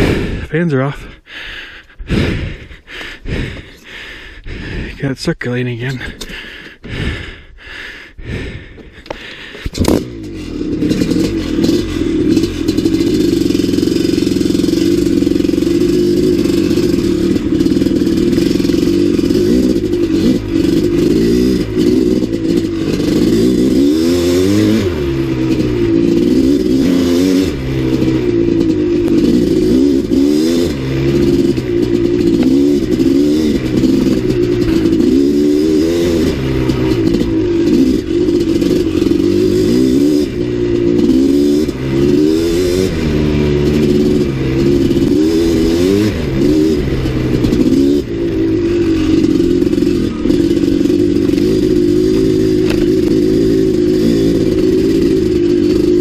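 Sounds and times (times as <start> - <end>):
dirt bike engine revving: 0.0 - 7.4, 8.2 - 56.0.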